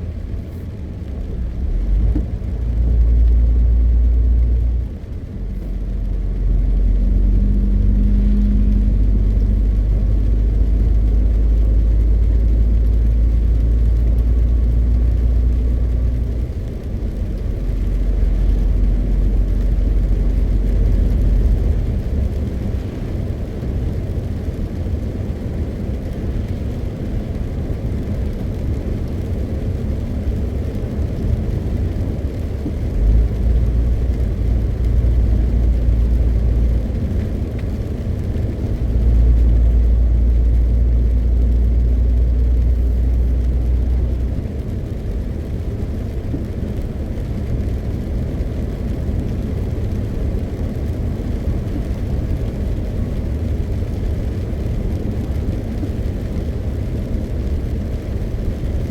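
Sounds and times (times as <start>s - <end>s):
road noise: 0.0s - 58.9s
truck diesel engine rumbling: 0.0s - 58.9s.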